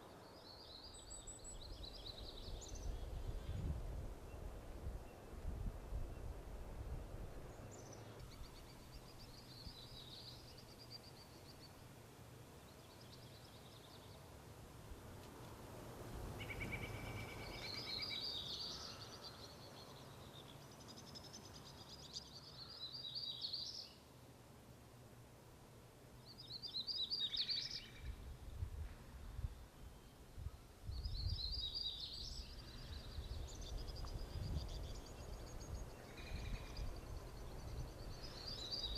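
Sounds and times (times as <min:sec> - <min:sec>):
songbirds twittering: 0:00.0 - 0:05.4, 0:06.0 - 0:14.4, 0:16.1 - 0:24.3, 0:26.2 - 0:38.9.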